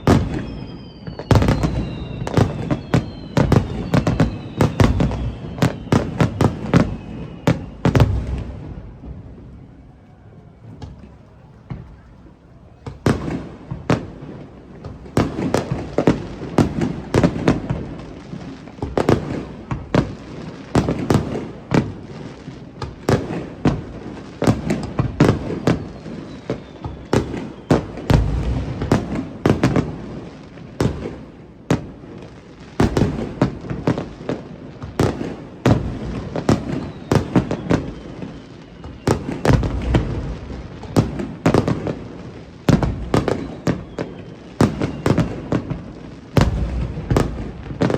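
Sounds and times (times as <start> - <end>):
fireworks bangs and booms: 0.0 - 47.9
fireworks crackling: 0.0 - 47.9.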